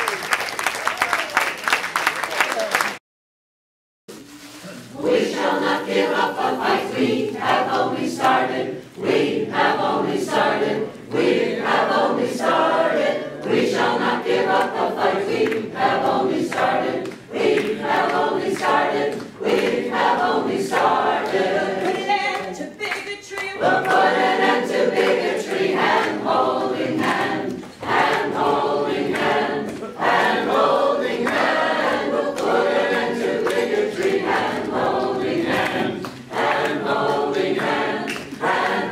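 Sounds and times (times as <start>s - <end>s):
mixed choir singing a cappella: 4.9s - 38.9s.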